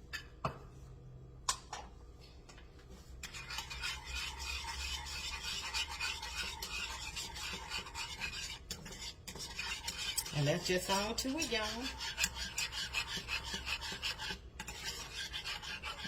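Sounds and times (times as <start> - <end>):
utensil scraping stirring gravy: 3.0 - 16.0.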